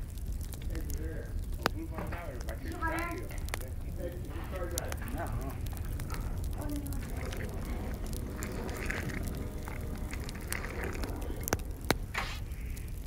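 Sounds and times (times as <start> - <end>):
steady low rumble: 0.0 - 13.0
wood fire crackling: 0.0 - 13.0
sharp pops: 0.5 - 13.0.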